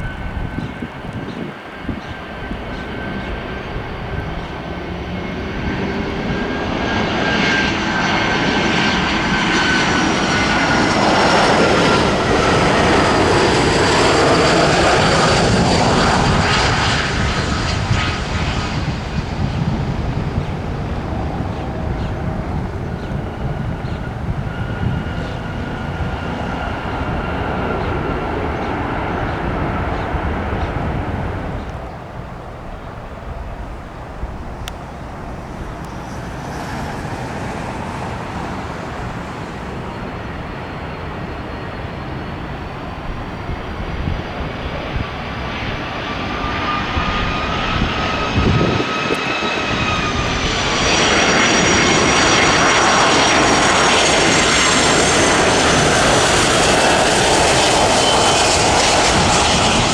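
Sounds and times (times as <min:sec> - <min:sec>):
jet engines roaring past: 0:00.0 - 0:59.9.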